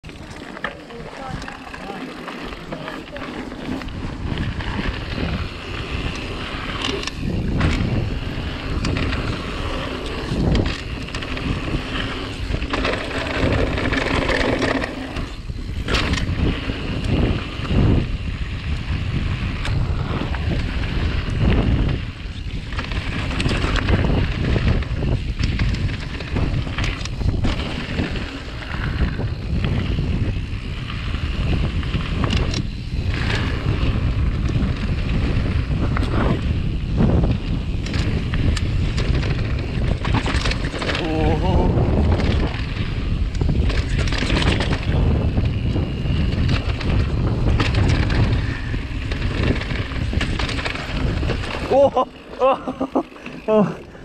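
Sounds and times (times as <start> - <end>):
bike rattling over stones: 0.0 - 54.0
bike tyres crunching on gravel: 0.0 - 54.0
wind buffeting microphone: 0.0 - 54.0.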